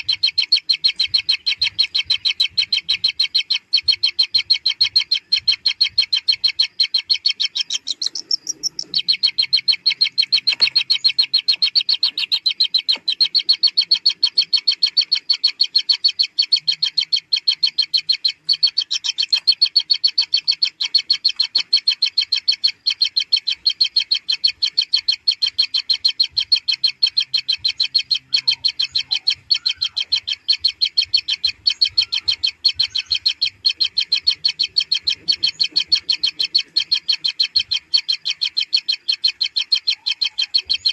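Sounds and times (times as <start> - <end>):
nestlings calling: 0.0 - 40.9.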